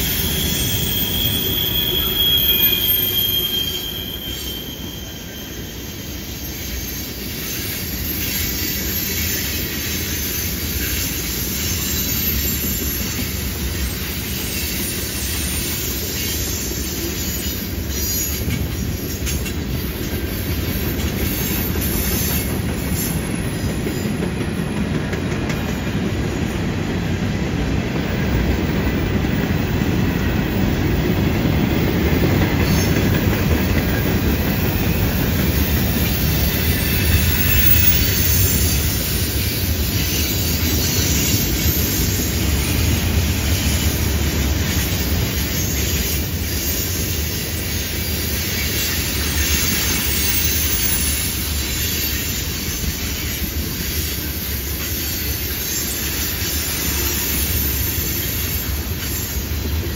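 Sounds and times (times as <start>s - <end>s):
wheel squeal: 0.0s - 24.7s, 30.5s - 59.8s
steel wheels clattering on rail: 0.0s - 59.9s.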